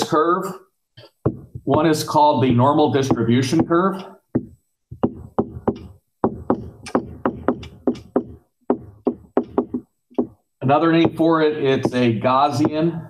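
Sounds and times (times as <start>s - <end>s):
stylus tapping on tablet screen: 1.0s - 12.8s.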